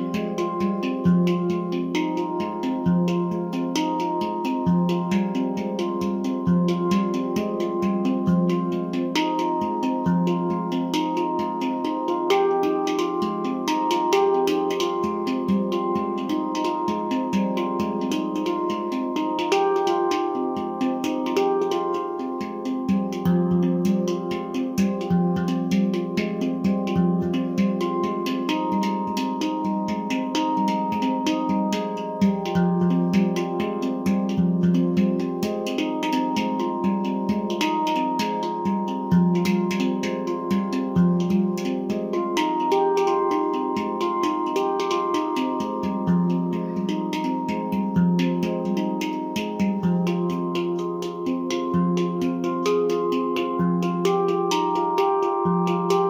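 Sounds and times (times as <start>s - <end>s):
handpan notes: 0.0s - 56.0s.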